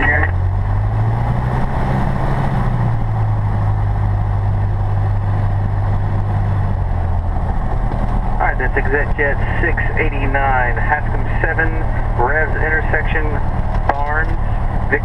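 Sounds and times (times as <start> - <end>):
aircraft engine and propeller drone: 0.0 - 15.0.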